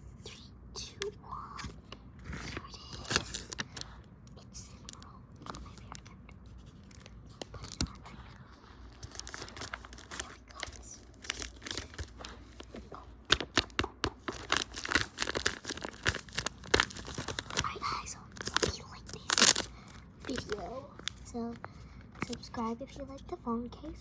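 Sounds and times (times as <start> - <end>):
packaging crinkling and tearing: 1.6 - 3.9, 4.6 - 22.6.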